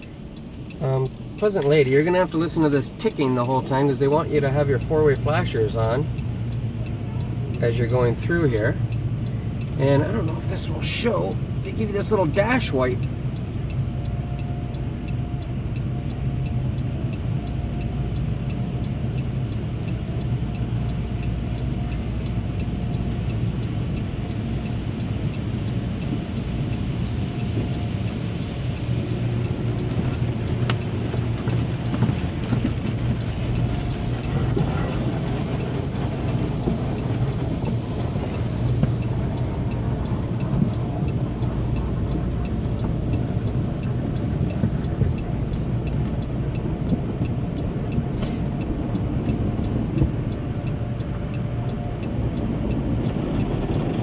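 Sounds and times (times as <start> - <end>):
car wash rumble: 0.0 - 54.0
hazard flasher relay ticking: 0.0 - 54.0.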